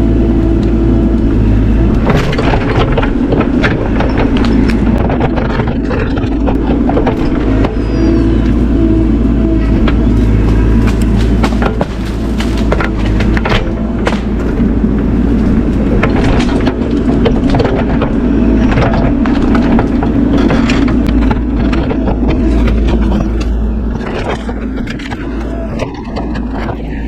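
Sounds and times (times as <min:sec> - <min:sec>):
diesel excavator engine under load: 0:00.0 - 0:27.0
wood cracking and scraping: 0:00.0 - 0:27.0.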